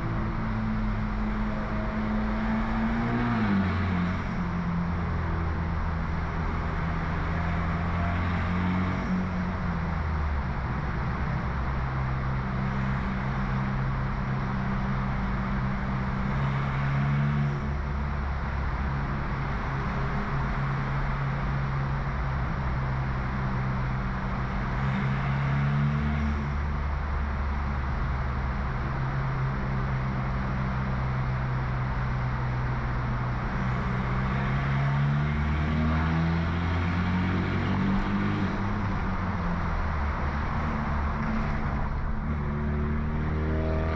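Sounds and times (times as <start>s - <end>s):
car engine droning: 0.0s - 43.9s.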